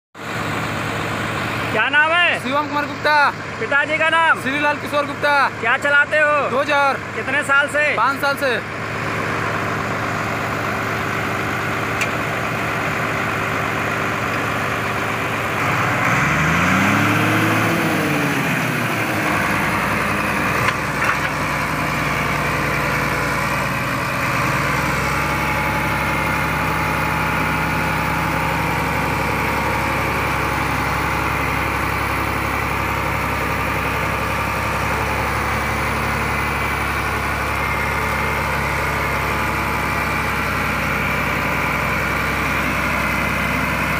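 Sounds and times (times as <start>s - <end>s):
bulldozer diesel engine running: 0.2s - 43.9s.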